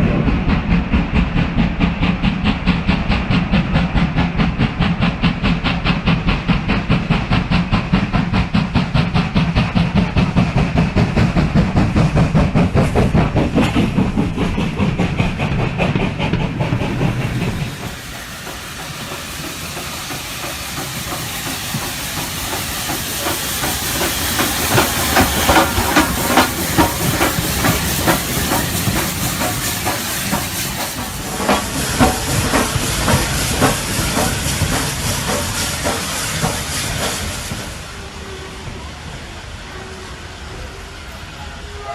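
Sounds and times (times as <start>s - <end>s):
model train rumbling over track clicks: 0.0s - 37.8s
steam locomotive hissing and chuffing: 0.0s - 41.9s.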